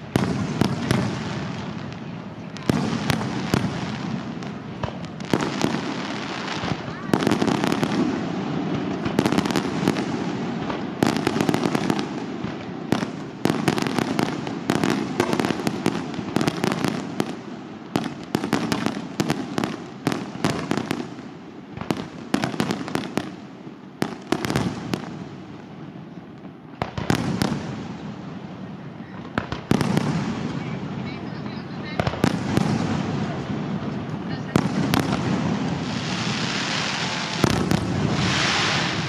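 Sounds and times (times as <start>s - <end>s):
fireworks bursting: 0.0s - 39.0s
fireworks crackle: 0.0s - 39.0s.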